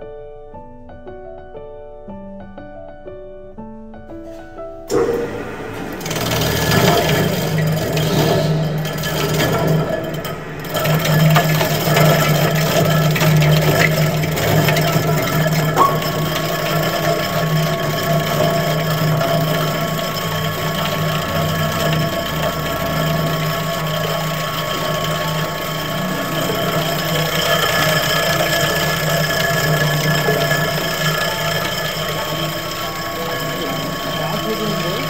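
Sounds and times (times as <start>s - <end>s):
bowl cutter motor humming and whining: 4.9s - 35.0s.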